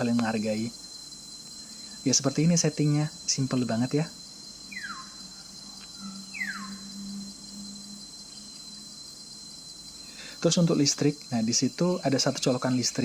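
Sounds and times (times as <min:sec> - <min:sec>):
faint low hum: 0:00.0 - 0:13.0
insects trilling: 0:00.0 - 0:13.0.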